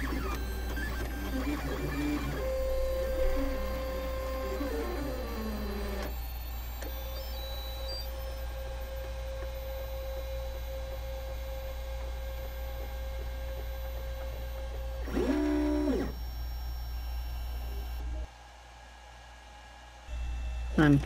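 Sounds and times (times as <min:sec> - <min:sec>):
stepper motors whining: 0:00.0 - 0:18.3.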